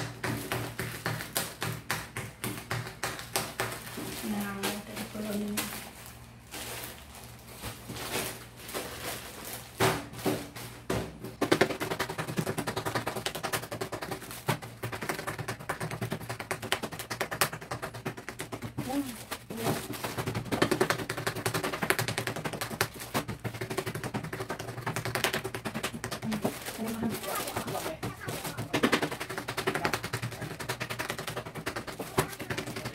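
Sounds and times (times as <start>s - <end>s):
toothpick pricking plastic bags: 2.6s - 9.8s, 11.4s - 32.9s.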